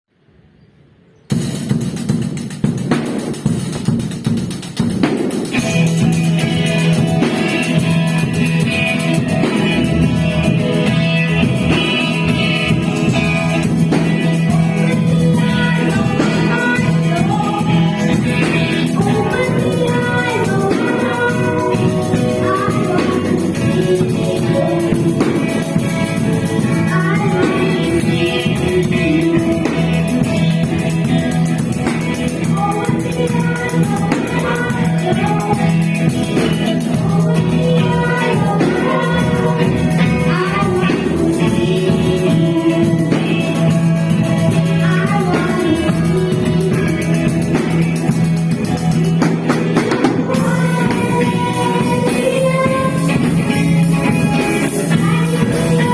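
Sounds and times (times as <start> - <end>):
instrumental backing: 1.3 - 55.9.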